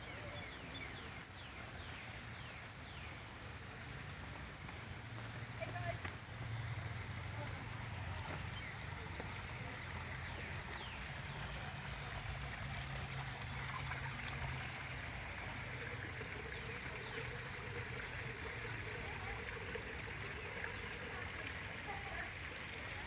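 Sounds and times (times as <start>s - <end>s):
water rushing in waterfall: 0.0s - 23.0s.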